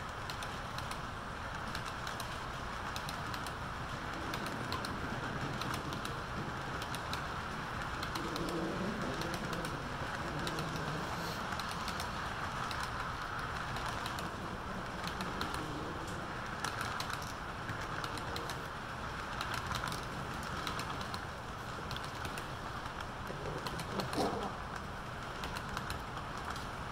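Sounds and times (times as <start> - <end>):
model train wheels rolling: 0.0 - 26.9
wheels clicking over rail joints: 0.0 - 26.9.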